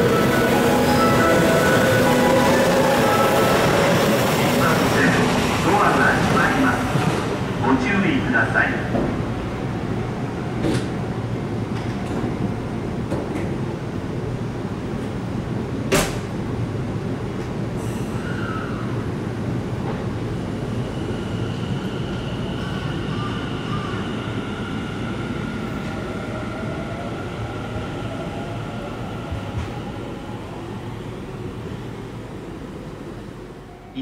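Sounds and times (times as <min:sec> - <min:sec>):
train rolling rumble: 0:00.0 - 0:34.0.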